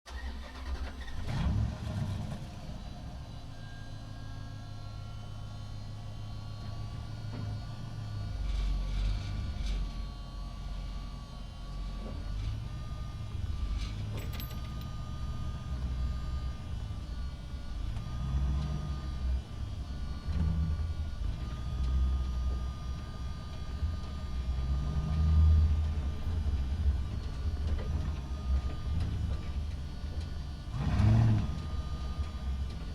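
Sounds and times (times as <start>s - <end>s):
truck engine rumble: 0.1s - 32.9s.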